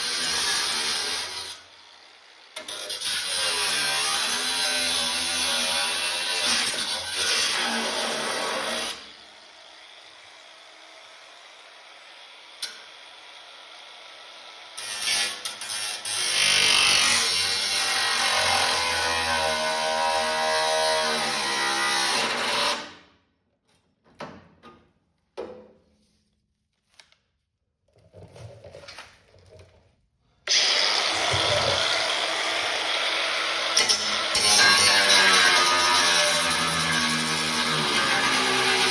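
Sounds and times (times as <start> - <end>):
power tool cutting sheet metal: 0.0 - 23.0, 30.5 - 38.9.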